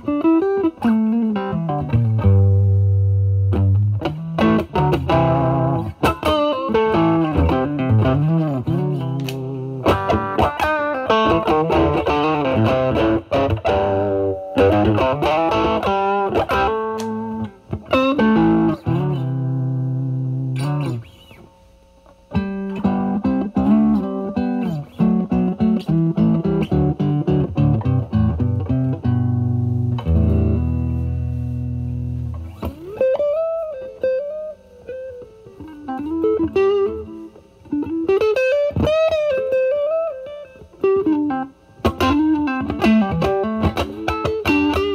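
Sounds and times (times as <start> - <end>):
overdriven electric guitar lead: 0.0 - 44.9.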